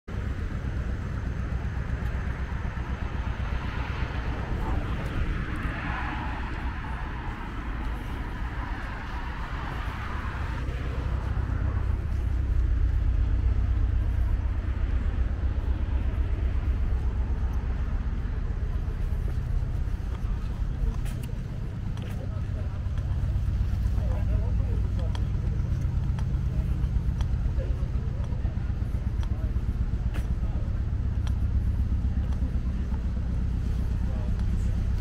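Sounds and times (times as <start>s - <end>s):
traffic rumble: 0.0s - 35.0s
vehicle passing: 1.9s - 35.0s.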